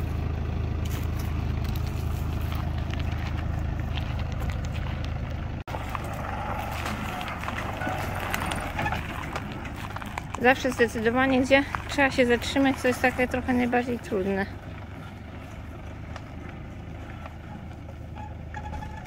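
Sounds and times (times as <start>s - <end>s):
engine idling: 0.0s - 19.0s
footsteps on dirt track: 0.0s - 19.0s.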